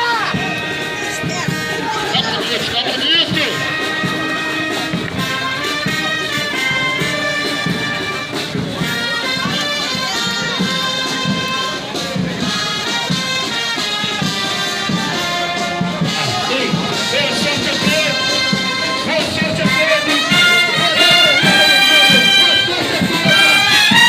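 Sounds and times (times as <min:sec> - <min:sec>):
military band playing: 0:00.0 - 0:24.0.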